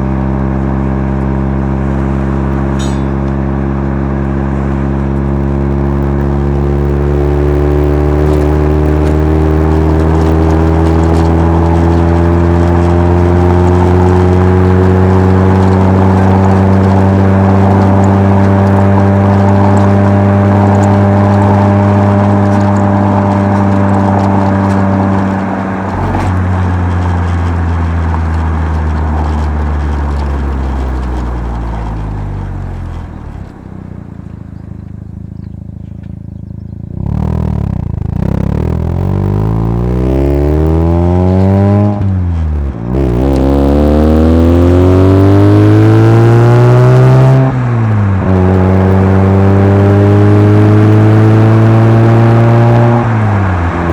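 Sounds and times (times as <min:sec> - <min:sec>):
rotary engine droning: 0:00.0 - 0:53.9.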